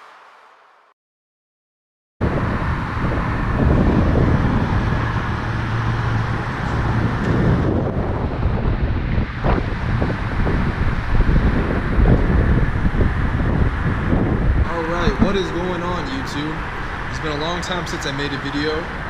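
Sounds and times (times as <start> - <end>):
road and engine rumble: 2.2 - 19.0
wind buffeting microphone: 2.2 - 19.0.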